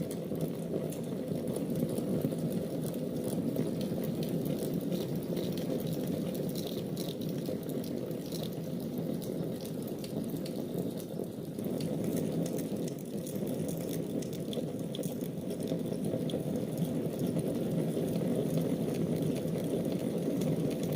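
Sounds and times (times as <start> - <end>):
fire burning in fireplace: 0.0 - 20.9
fire crackling and popping: 0.0 - 20.9.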